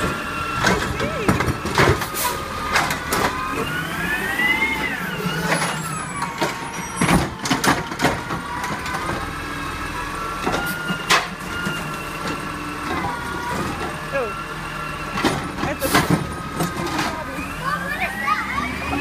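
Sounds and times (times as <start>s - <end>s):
garbage truck hydraulic whine: 0.0s - 19.0s.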